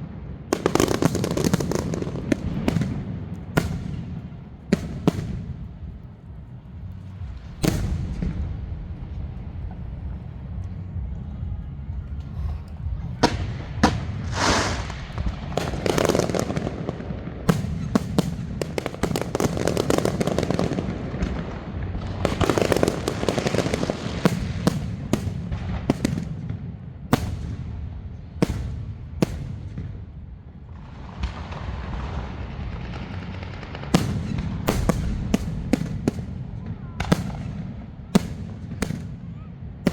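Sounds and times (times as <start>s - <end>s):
fireworks crackling: 0.0s - 26.5s, 27.1s - 39.9s
fireworks bangs: 0.0s - 39.9s.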